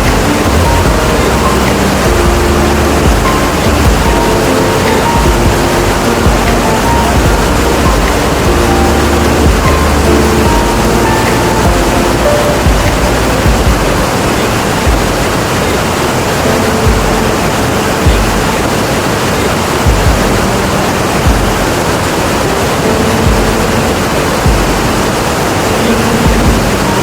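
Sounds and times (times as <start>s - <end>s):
low thumps: 0.0s - 15.6s, 16.7s - 18.8s, 19.8s - 22.0s, 23.1s - 25.3s, 26.1s - 27.0s
roar of falling water: 0.0s - 27.0s.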